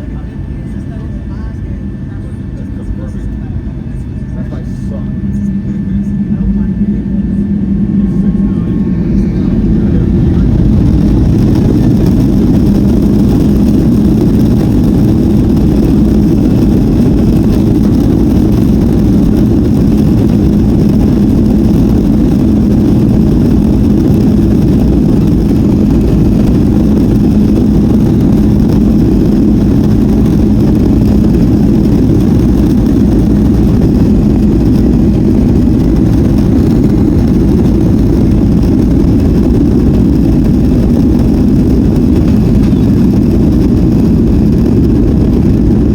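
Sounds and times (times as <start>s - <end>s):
jet engines rumbling in cabin: 0.0s - 45.9s.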